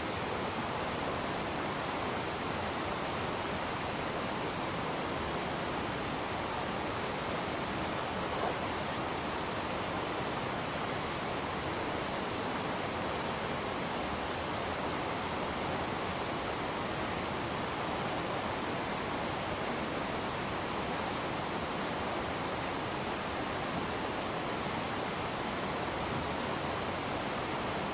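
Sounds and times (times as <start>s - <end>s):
shallow river over rocks: 0.0s - 27.9s.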